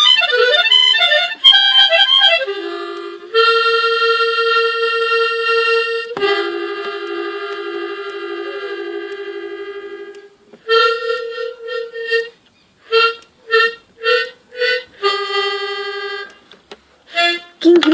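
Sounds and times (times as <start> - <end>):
free-reed gaita playing: 0.0 - 17.9.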